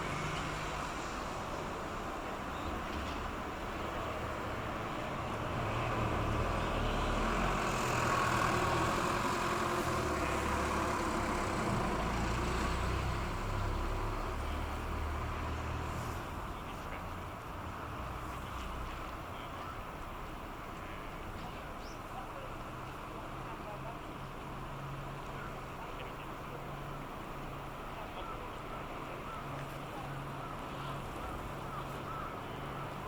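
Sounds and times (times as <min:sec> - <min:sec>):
boat engine rumble: 0:00.0 - 0:33.0.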